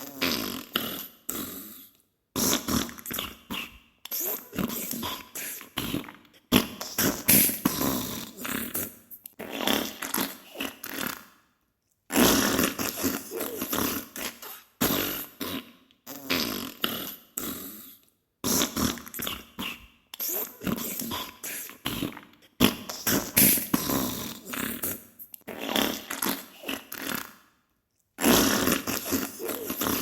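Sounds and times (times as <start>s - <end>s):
farting bursts: 0.0s - 1.7s, 2.4s - 11.3s, 12.1s - 17.6s, 18.4s - 27.4s, 28.2s - 30.0s.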